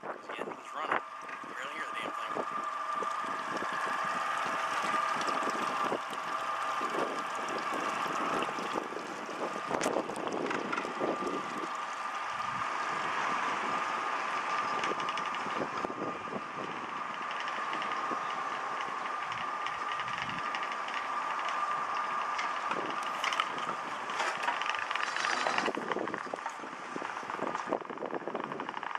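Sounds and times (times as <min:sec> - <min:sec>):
wind noise: 0:00.0 - 0:20.6, 0:21.6 - 0:28.9
outboard motors idling: 0:00.0 - 0:28.9
water wash: 0:00.8 - 0:28.9.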